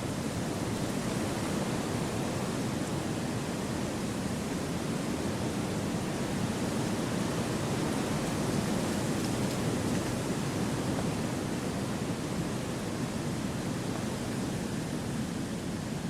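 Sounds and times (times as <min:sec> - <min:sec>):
wind through forest trees: 0:00.0 - 0:16.0.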